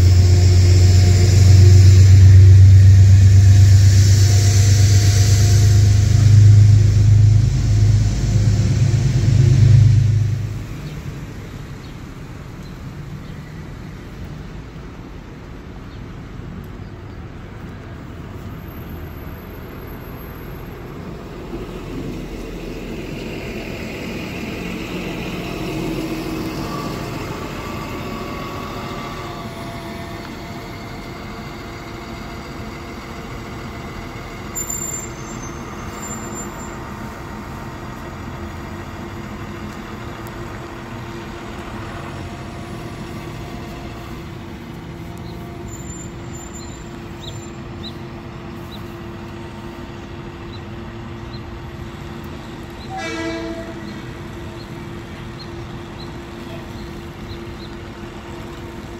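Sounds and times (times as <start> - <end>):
bus driving off: 0.0 - 58.9.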